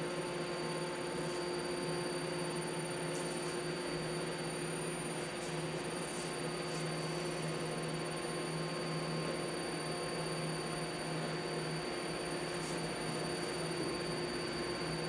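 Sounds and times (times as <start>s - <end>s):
machinery humming and hissing: 0.0s - 15.0s.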